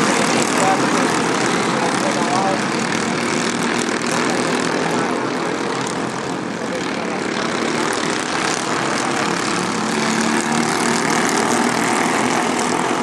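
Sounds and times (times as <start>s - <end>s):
kart engine buzzing drone: 0.0s - 13.0s.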